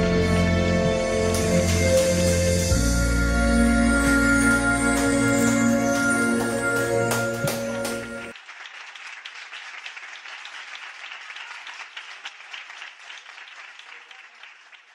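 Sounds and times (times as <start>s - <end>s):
audience applauding: 1.1s - 14.9s.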